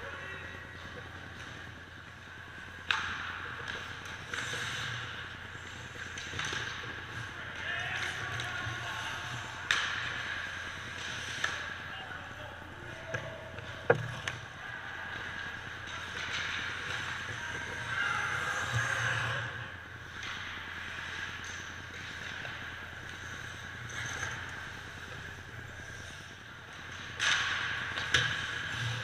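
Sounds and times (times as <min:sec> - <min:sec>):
hockey sticks and puck clacking: 0:00.2 - 0:29.0.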